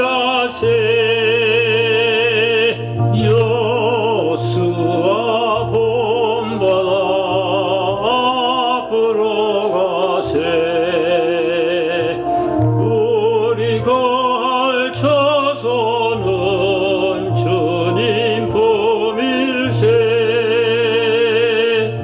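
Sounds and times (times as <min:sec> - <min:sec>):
operatic hymn singing with vibrato: 0:00.0 - 0:22.0.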